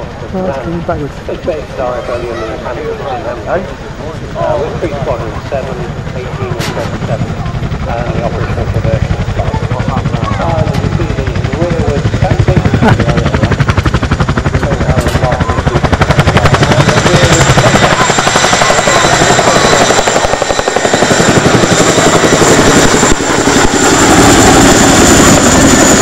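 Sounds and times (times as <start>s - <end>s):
helicopter rotor blades beating: 0.0s - 26.0s
high turbine whine: 0.0s - 26.0s.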